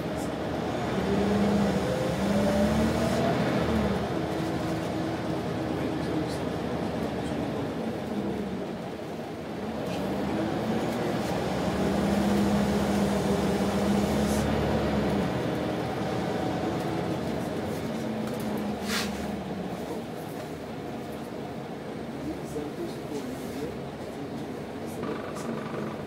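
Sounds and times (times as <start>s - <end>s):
bus engine running under load: 0.0s - 26.0s.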